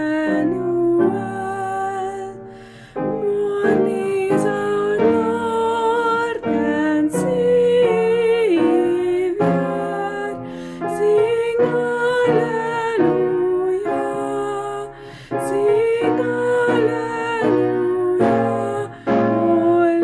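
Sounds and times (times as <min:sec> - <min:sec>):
upright piano chords: 0:00.0 - 0:20.0
woman singing: 0:00.0 - 0:20.0.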